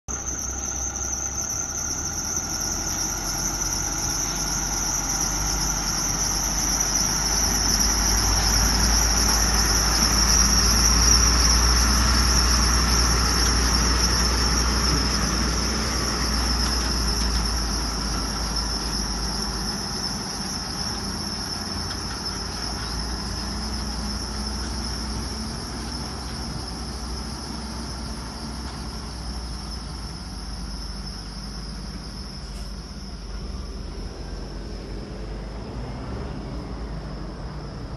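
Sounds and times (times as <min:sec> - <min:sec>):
diesel truck driving past: 0:00.1 - 0:37.9
insect chorus: 0:00.1 - 0:37.9.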